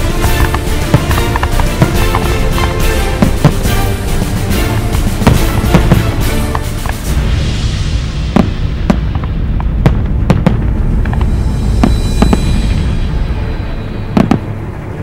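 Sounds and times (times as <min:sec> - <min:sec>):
firework shells bursting: 0:00.0 - 0:13.1
continuous low rumble: 0:00.0 - 0:15.0.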